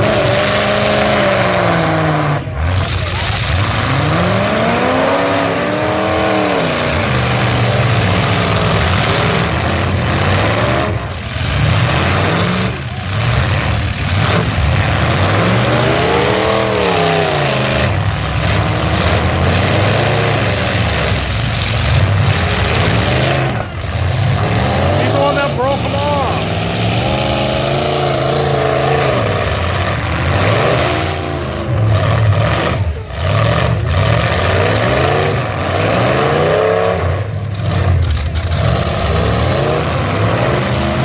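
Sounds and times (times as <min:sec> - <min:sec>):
truck engines revving: 0:00.0 - 0:41.0.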